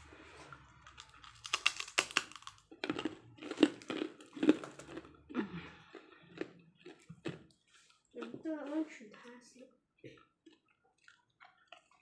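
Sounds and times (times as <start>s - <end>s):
person chewing and smacking food: 0.5s - 8.4s, 9.9s - 12.0s.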